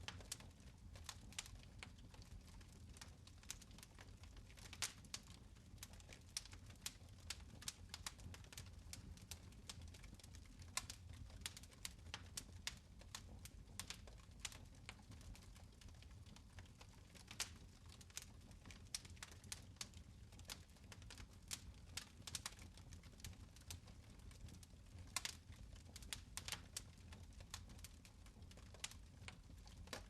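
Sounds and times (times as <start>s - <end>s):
fire crackling and popping: 0.0s - 30.0s
low rumble of fire: 0.0s - 30.0s.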